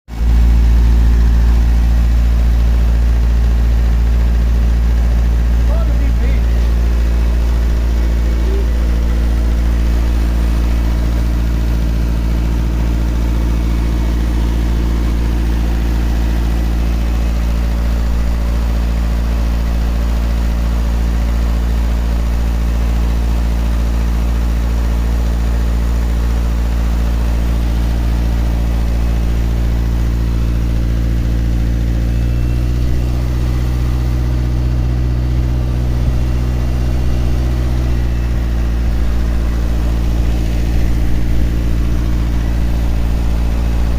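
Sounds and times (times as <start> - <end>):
car engine idling: 0.1 - 43.9.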